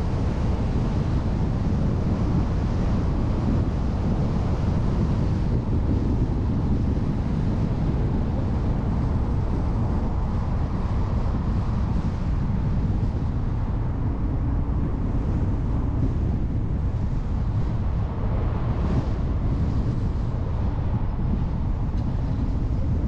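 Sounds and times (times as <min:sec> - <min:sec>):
moving car rumble: 0:00.0 - 0:23.0
wind buffeting microphone: 0:00.0 - 0:23.0.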